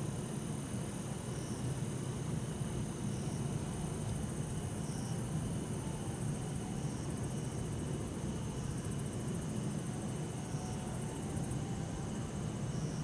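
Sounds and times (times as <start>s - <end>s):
crickets ringing: 0.0s - 13.0s.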